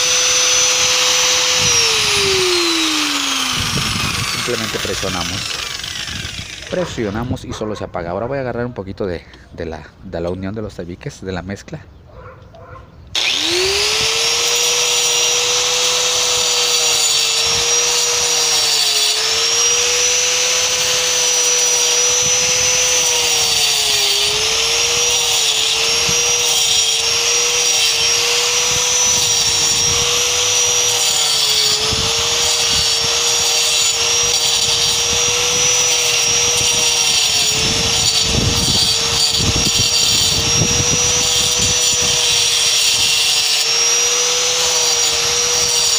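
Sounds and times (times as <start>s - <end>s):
angle grinder cutting concrete: 0.0s - 8.5s, 13.2s - 45.9s.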